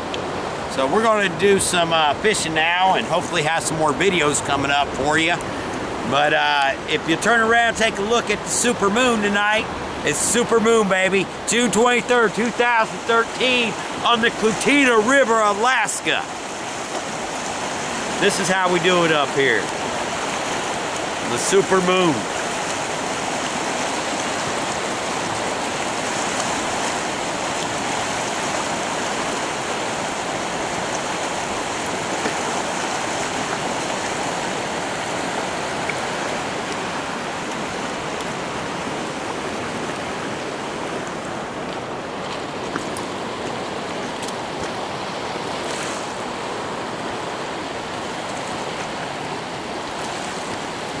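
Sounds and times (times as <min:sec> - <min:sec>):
river current rushing: 0:00.0 - 0:51.0.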